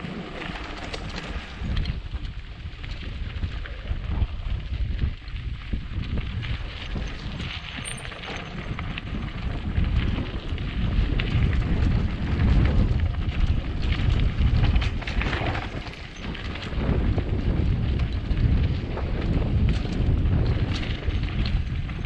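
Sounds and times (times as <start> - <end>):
bike rattling on bumps: 0.0 - 22.0
constant rumble: 0.0 - 22.0
wind buffeting microphone: 0.0 - 22.0.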